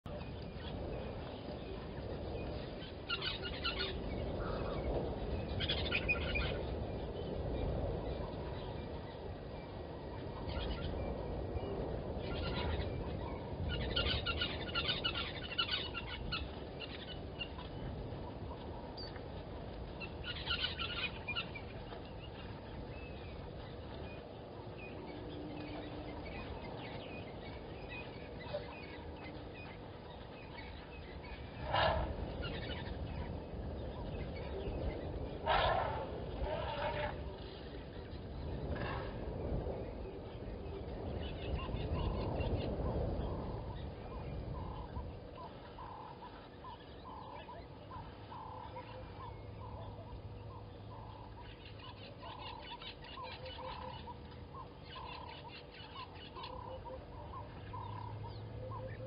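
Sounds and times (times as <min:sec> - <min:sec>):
birds chattering: 0:00.1 - 0:59.0
low background rumble: 0:00.1 - 0:59.0.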